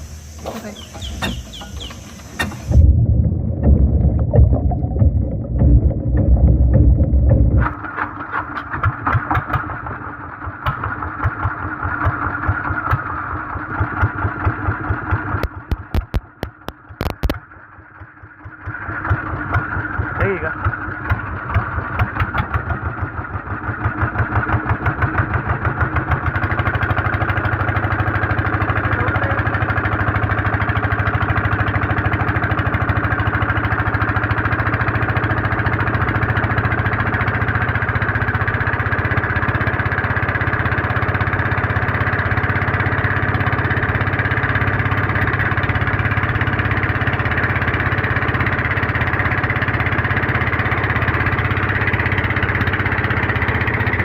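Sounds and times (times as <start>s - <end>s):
diesel boat engines chugging: 0.0s - 54.0s.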